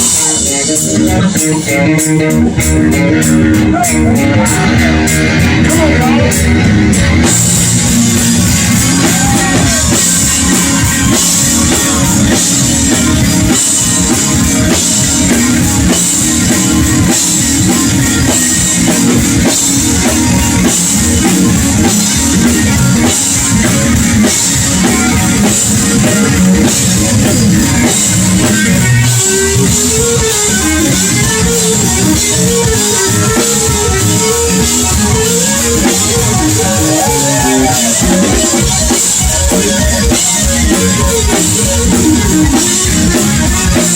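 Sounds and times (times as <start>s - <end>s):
blues-rock band playing: 0.0s - 43.9s
electric guitar note bending: 0.0s - 43.9s.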